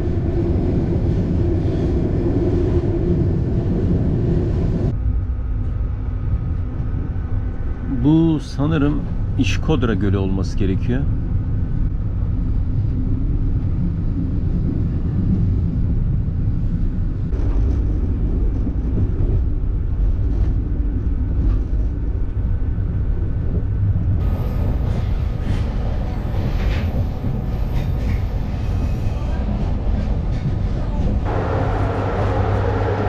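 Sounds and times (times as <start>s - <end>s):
train carriage rumble: 0.0s - 33.0s.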